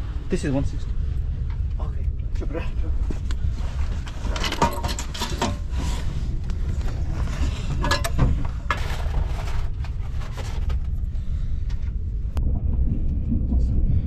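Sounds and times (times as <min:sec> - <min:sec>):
train carriage rumble: 0:00.0 - 0:14.0.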